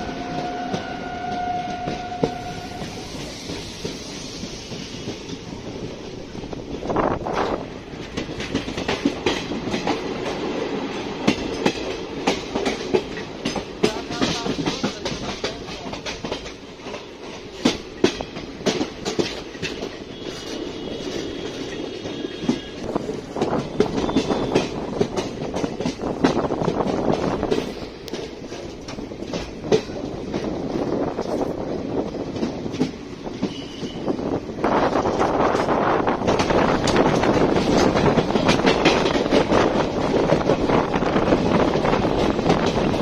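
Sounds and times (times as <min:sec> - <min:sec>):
train rumble: 0:00.0 - 0:43.0
wheels clacking over rail joints: 0:00.0 - 0:43.0.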